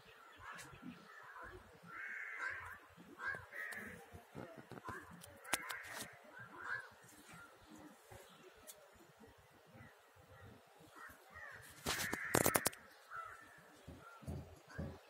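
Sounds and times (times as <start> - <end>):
birds giving harsh calls: 0.4 - 8.4, 10.9 - 15.0.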